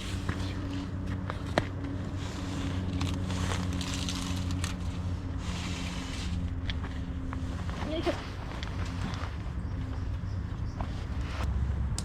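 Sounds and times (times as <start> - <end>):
twigs and pine needles rustling: 0.0 - 11.5
low hum: 0.0 - 12.0.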